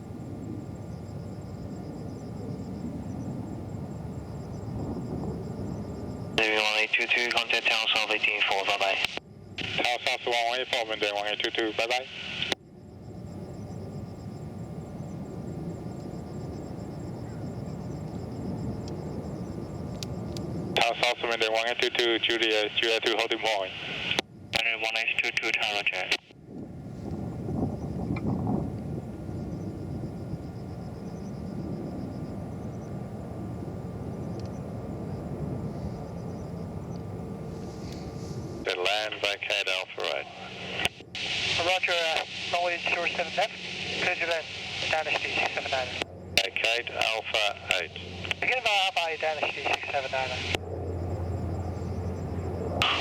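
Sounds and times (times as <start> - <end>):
distant jet engine rumble: 0.0 - 53.0.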